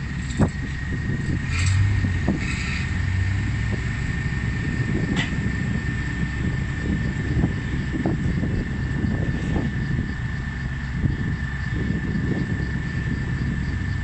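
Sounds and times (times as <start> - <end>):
excavator diesel engine: 0.0 - 14.0.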